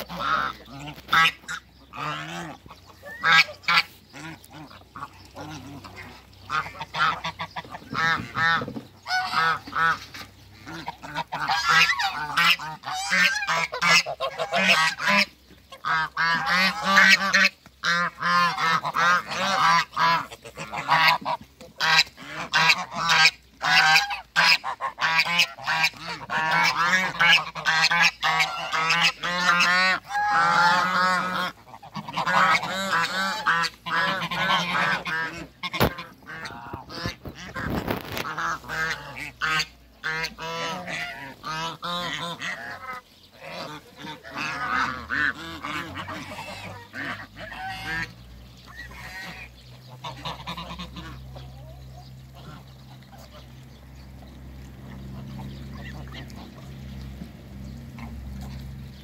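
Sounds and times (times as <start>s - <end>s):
geese honking: 0.0s - 59.0s.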